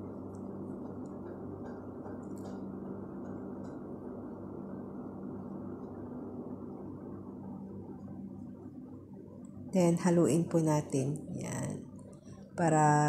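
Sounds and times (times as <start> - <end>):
low hum and rush: 0.0 - 13.0.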